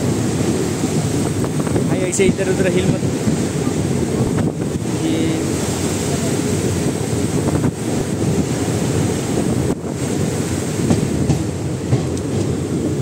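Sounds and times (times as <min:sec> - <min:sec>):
moving train rumble: 0:00.0 - 0:13.0
wind buffeting microphone: 0:00.0 - 0:13.0.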